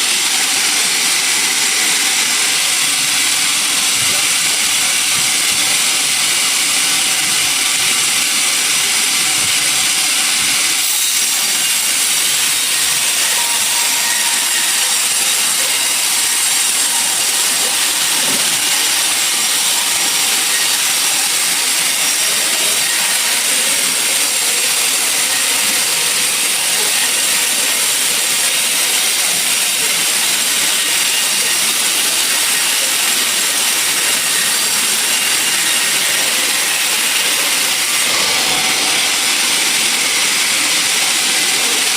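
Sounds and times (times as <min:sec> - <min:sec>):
saw blade cutting through log: 0:00.0 - 0:41.9.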